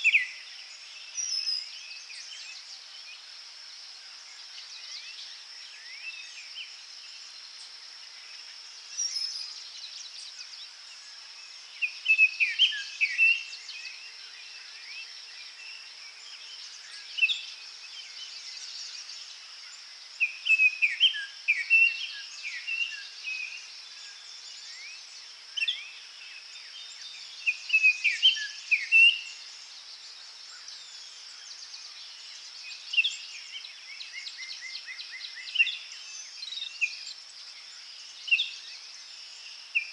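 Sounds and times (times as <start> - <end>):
birds singing whistled notes: 0.0 - 3.2, 8.2 - 39.9
high-pitched background hiss: 0.0 - 39.9.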